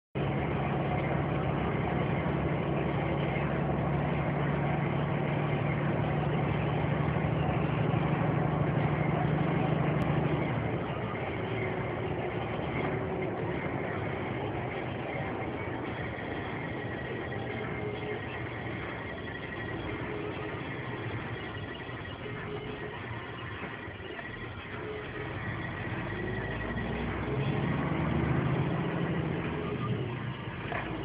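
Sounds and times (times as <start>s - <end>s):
lorry engine running: 0.2s - 31.0s
road noise: 0.2s - 31.0s.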